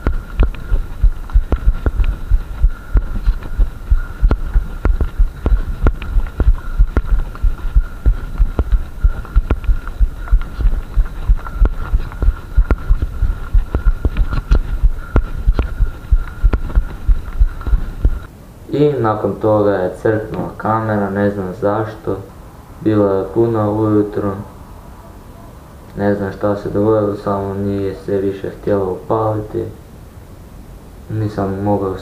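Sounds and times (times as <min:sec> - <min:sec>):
thin steady hum: 0:00.0 - 0:32.0.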